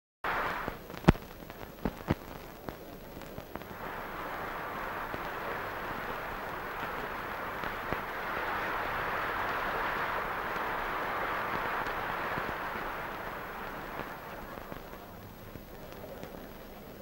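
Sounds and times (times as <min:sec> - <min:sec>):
audience applauding: 0:00.3 - 0:17.0.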